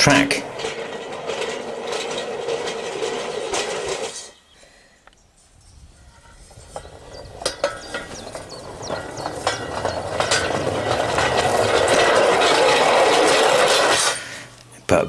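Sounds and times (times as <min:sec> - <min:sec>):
steel wheels rolling on track: 0:00.0 - 0:04.6, 0:05.5 - 0:14.6.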